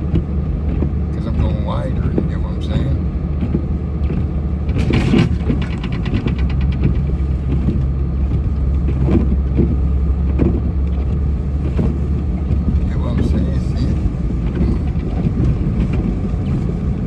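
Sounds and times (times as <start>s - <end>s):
truck engine running under load: 0.0s - 17.0s.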